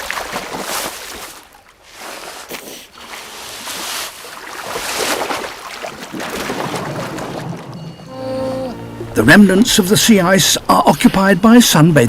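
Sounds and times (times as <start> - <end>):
sea water rushing and splashing: 0.0 - 10.7.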